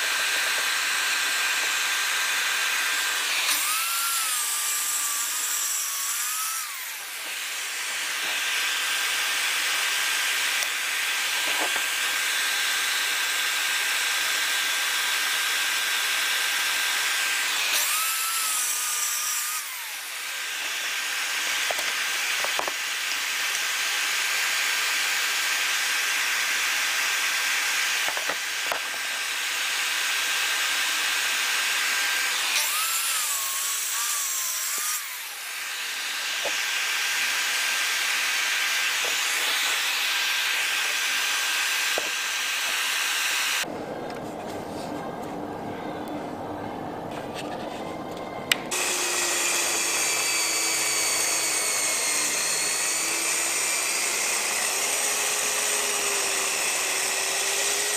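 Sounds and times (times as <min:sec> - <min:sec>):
saw cutting plywood with motor whine: 0:00.0 - 0:57.9.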